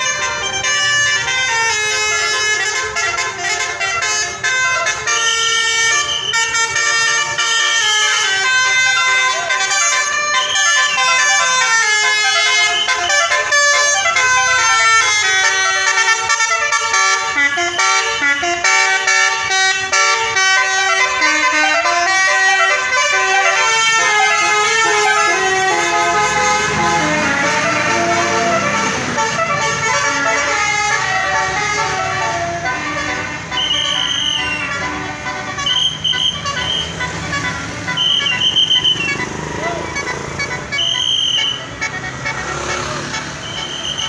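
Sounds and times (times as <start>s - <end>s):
multi-tone bus horn tune: 0.0s - 44.0s.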